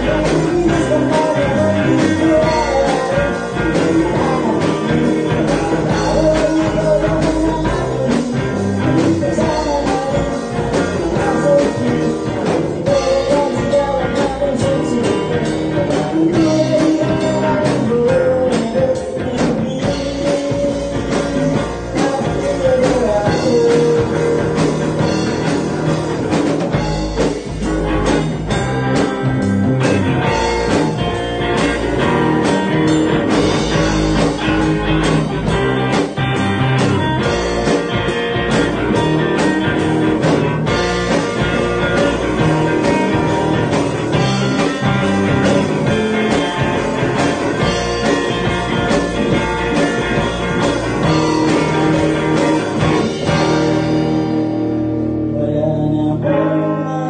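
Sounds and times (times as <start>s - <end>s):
drum kit: 0.0s - 56.1s
electric guitar: 0.0s - 57.0s
live rock band playing: 0.0s - 57.0s.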